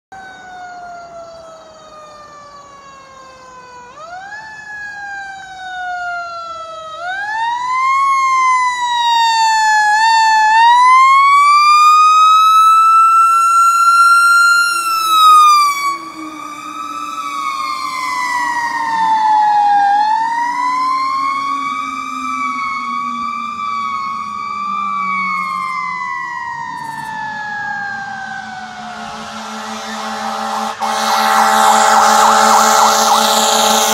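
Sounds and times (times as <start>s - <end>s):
fire engine siren wailing: 0.1s - 33.9s.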